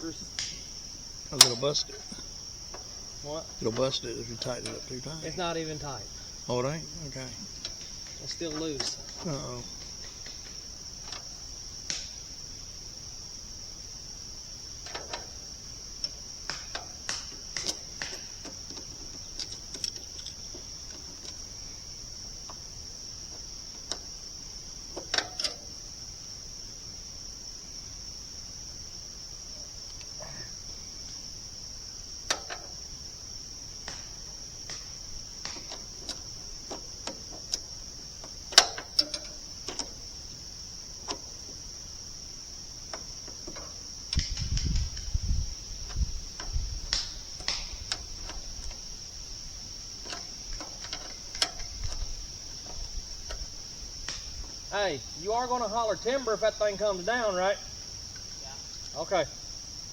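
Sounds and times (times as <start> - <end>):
sharp clicks and knocks: 0.0 - 12.3, 14.6 - 26.0, 32.2 - 57.2
insects chorus: 0.0 - 59.9.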